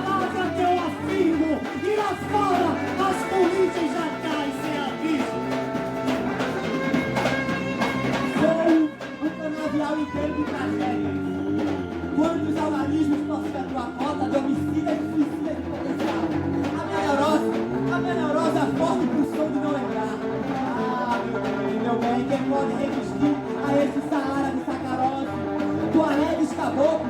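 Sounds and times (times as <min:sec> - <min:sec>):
hand percussion: 0:00.0 - 0:27.0.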